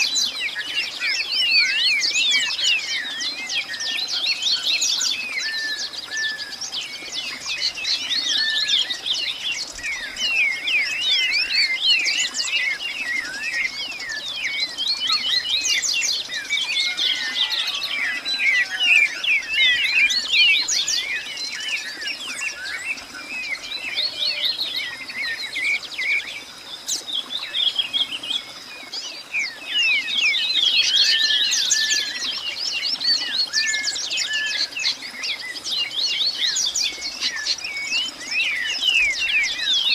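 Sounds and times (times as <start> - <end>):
birds chirping in chorus: 0.0 - 39.9.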